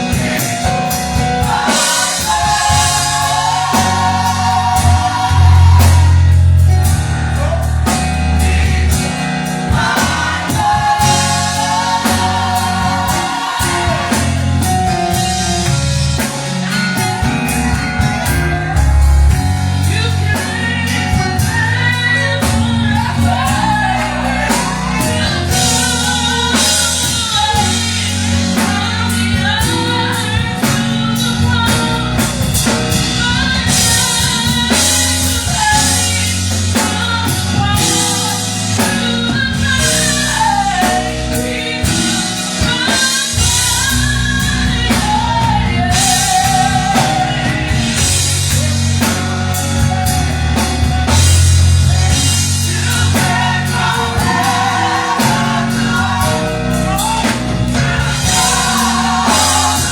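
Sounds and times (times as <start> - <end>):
choir singing gospel: 0.0 - 59.9
drum kit beat: 0.0 - 59.9.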